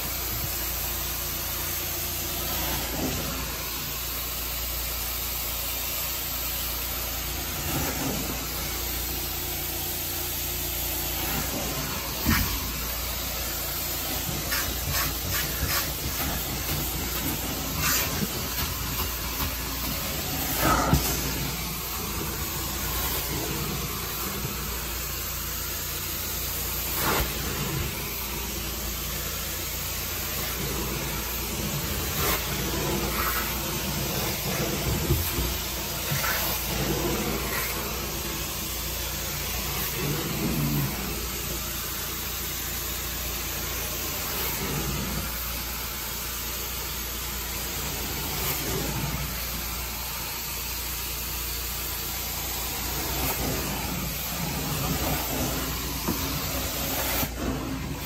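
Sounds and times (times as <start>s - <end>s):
carpet cleaner spray and suction: 0.0s - 58.0s.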